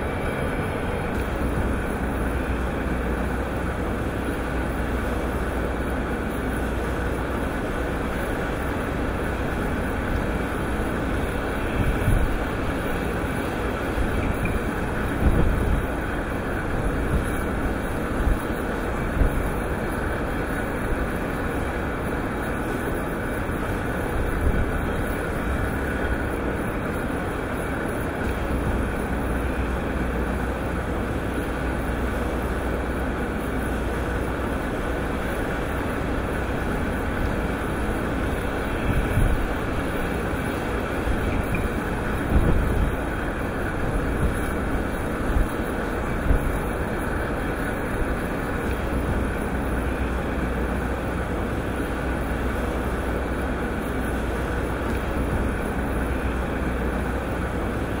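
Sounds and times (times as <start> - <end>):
conveyor rumbling: 0.0 - 58.0.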